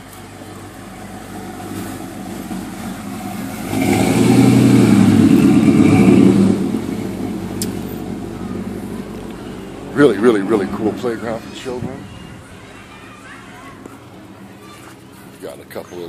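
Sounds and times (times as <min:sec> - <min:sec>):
vehicle engine passing by: 0:00.0 - 0:13.2.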